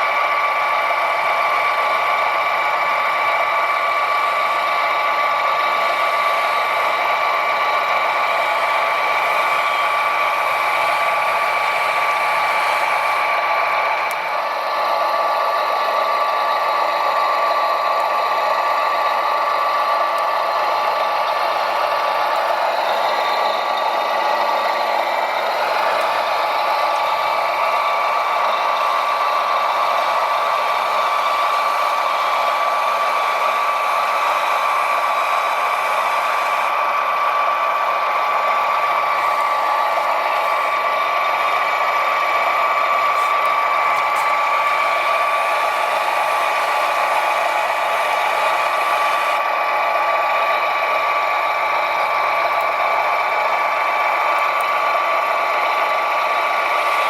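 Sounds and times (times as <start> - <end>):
rattling mechanical hum: 0.0 - 57.0
electric motors whining: 0.1 - 17.3, 17.9 - 57.0.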